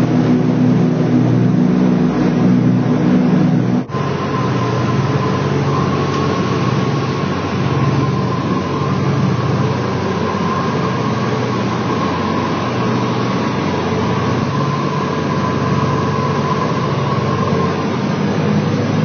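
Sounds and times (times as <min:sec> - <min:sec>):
airplane engines droning: 0:00.0 - 0:19.0
thin steady hum: 0:00.0 - 0:19.0.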